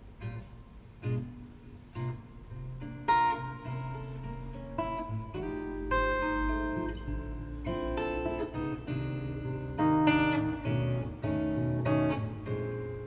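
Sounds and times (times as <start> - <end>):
jazz guitar and bass over loudspeakers: 0.0 - 13.0.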